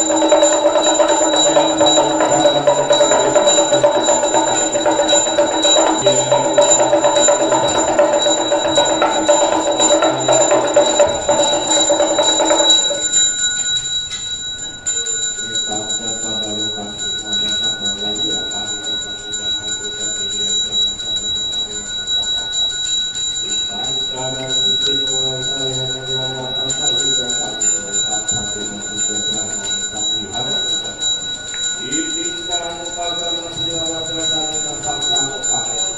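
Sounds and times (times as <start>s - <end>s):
person chanting: 0.0s - 13.1s, 15.4s - 22.6s, 23.4s - 31.2s, 31.8s - 35.9s
hand bell jingling: 0.0s - 35.9s.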